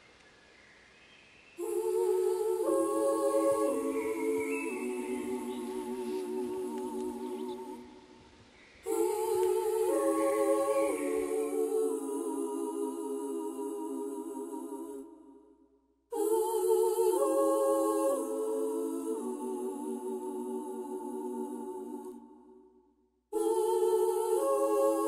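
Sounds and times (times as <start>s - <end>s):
voices humming in harmony: 1.6s - 15.4s, 16.1s - 22.4s, 23.4s - 25.0s.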